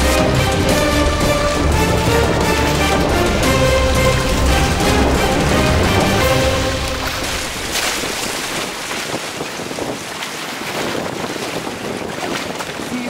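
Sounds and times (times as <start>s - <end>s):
choppy water splashing on hull: 0.0s - 13.0s
wind buffeting microphone: 0.0s - 13.0s.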